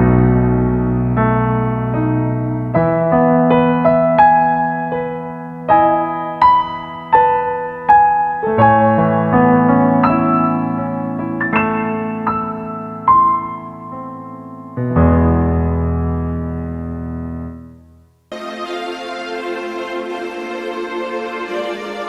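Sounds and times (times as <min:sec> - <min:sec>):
slow soft piano music: 0:00.0 - 0:22.0.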